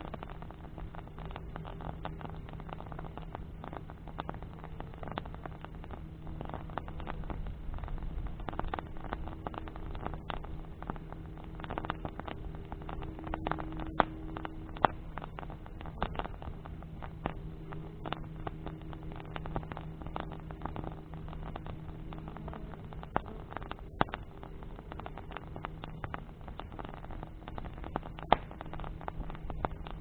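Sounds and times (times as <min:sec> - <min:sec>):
bonfire crackling and popping: 0:00.0 - 0:30.0
low hum: 0:00.0 - 0:30.0.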